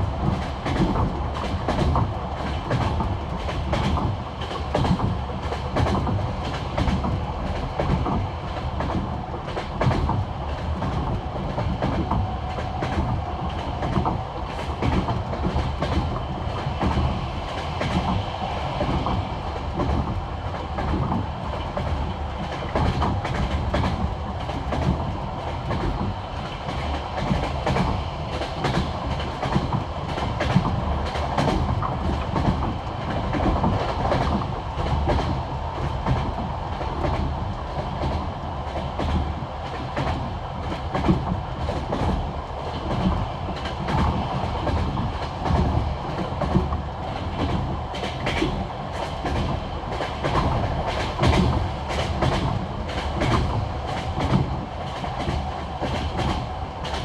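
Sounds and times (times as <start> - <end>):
train rumble: 0.0 - 57.0
train wheels clickety-clack: 0.0 - 57.0.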